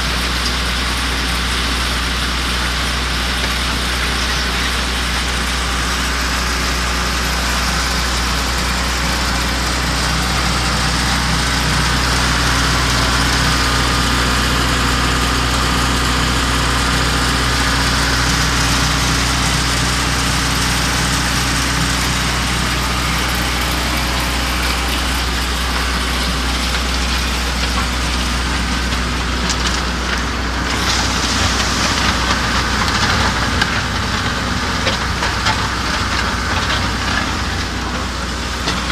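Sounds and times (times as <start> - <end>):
diesel engine running: 0.0 - 38.9
crackling rattle: 3.0 - 38.9.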